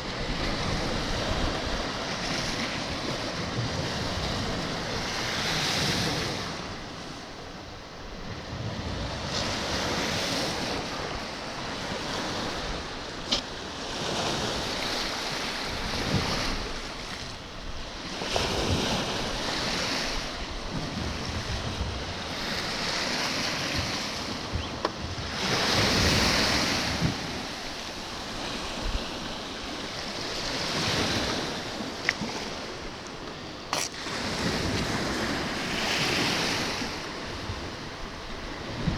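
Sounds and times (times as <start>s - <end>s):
wind rumbling on microphone: 0.0s - 7.3s, 8.0s - 38.9s
sea waves washing in: 0.0s - 38.9s.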